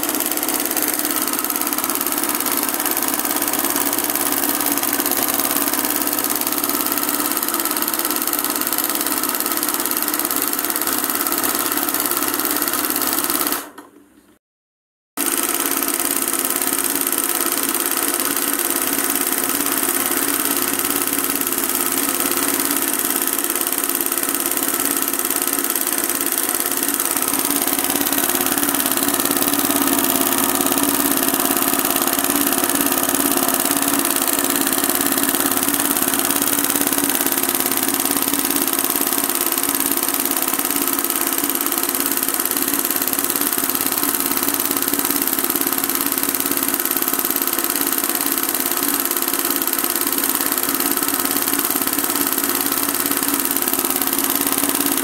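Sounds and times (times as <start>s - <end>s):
embroidery machine stitching: 0.0s - 14.0s, 15.2s - 55.0s.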